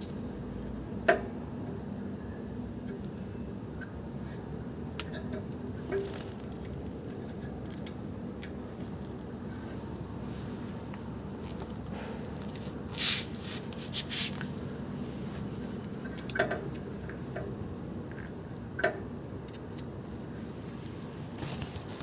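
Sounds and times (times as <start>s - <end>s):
handling clicks and rustles: 4.2s - 22.0s.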